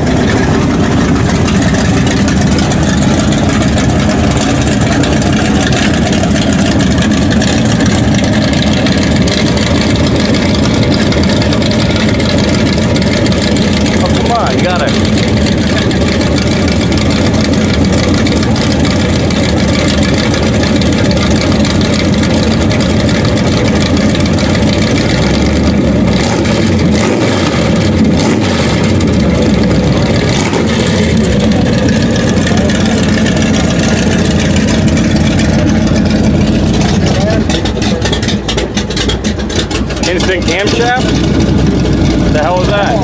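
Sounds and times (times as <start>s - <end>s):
car engine idling roughly and revving: 0.0s - 43.0s.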